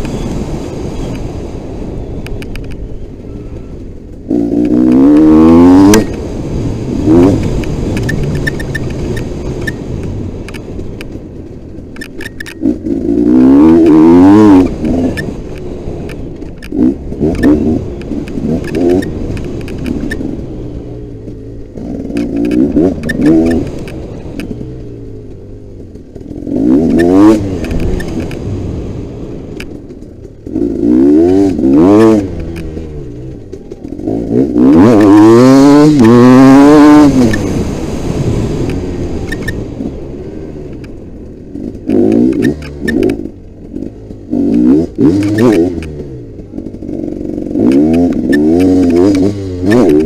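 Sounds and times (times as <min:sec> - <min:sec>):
motocross bike engine revving: 0:03.3 - 0:09.8, 0:12.0 - 0:50.0.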